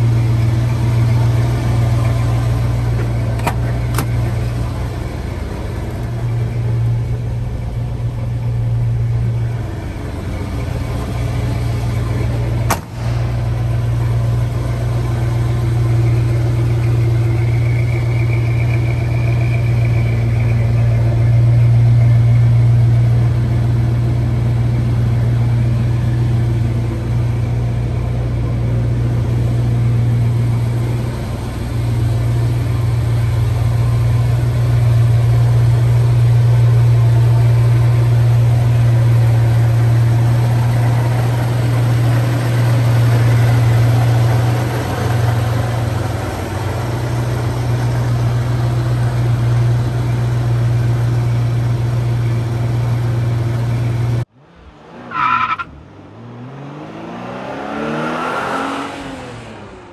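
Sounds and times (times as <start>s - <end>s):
engine idling: 0.0s - 54.8s.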